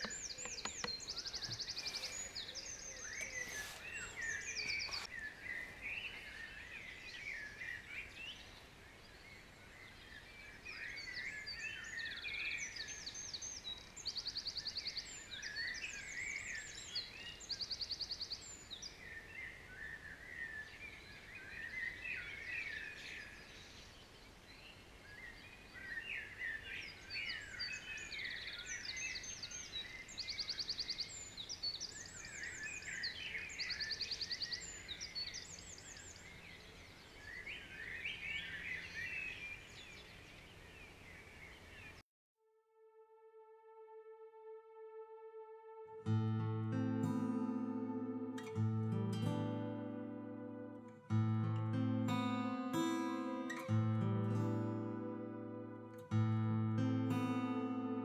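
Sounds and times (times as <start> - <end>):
songbirds singing: 0.0 - 42.0, 46.1 - 58.0.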